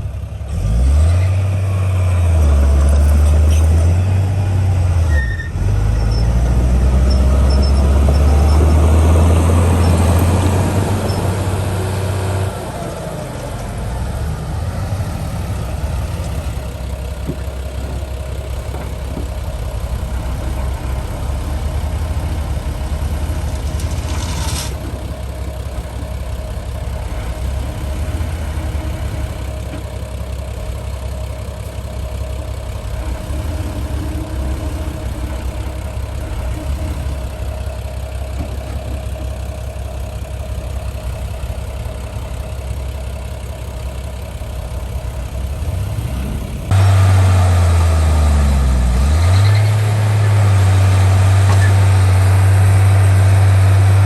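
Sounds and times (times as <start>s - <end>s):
diesel machinery engine: 0.0s - 54.0s.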